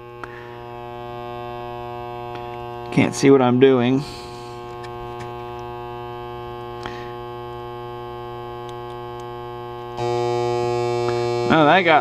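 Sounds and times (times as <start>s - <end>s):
speaker mains hum: 0.0s - 12.0s.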